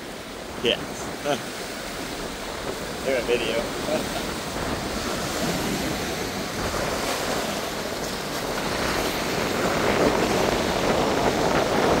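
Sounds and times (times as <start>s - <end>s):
surf washing over rocks: 0.0s - 12.0s
wind on microphone: 0.0s - 12.0s.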